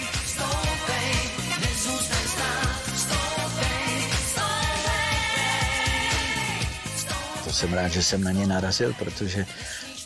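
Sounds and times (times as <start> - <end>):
person singing: 0.0 - 10.0
upbeat pop song: 0.0 - 10.0.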